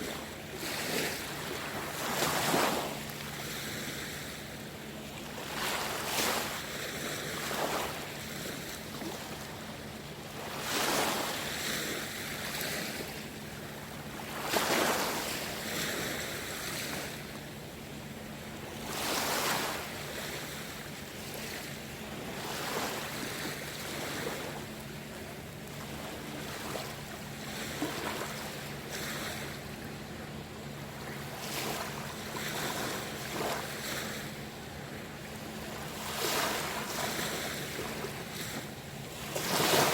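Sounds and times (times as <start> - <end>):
sea waves washing in: 0.0 - 17.4, 18.4 - 39.9.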